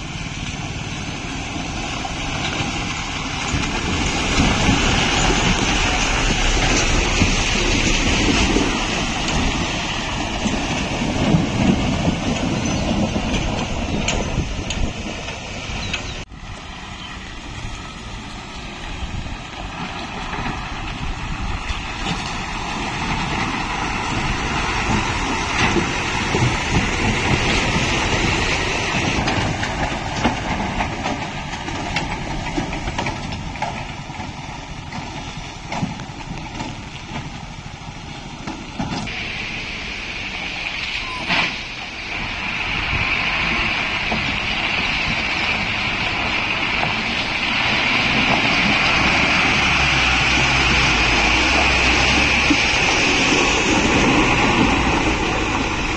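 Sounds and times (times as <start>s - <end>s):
road noise: 0.0s - 55.9s
truck engines running slowly: 0.0s - 55.9s.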